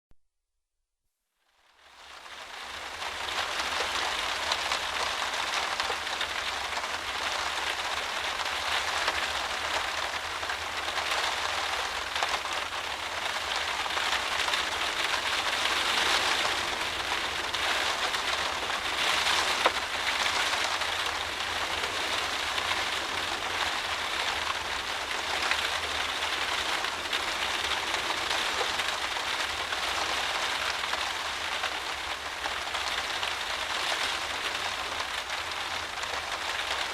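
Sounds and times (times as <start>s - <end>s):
heavy rain on a windowpane: 1.5s - 36.9s.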